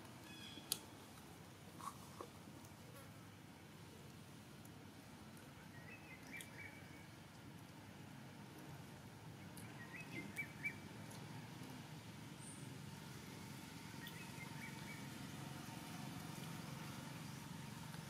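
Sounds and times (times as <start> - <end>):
low steady background noise: 0.0 - 18.0.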